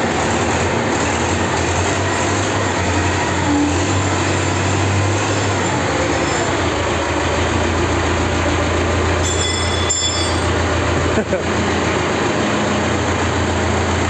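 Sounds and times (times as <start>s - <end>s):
engine running with deep hum: 0.0s - 14.0s.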